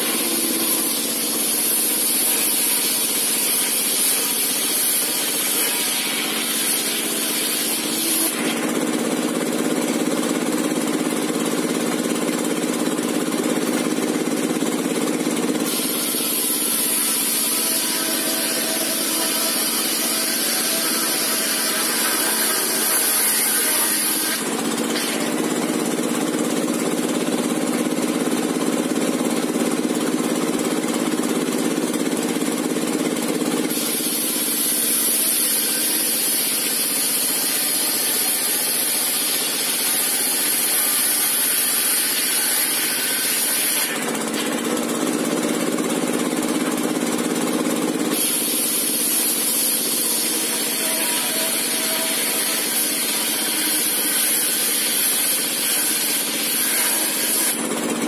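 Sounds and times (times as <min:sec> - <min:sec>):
circular saw ripping timber: 0:00.0 - 0:58.0.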